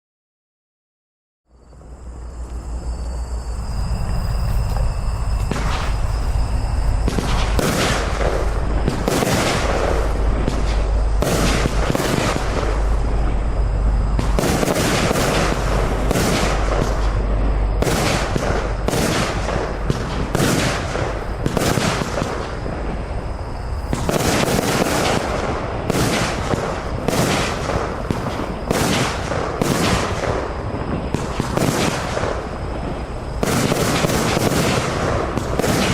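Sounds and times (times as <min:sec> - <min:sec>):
fireworks crackle: 0:01.6 - 0:35.9
fireworks shots firing: 0:04.7 - 0:35.9.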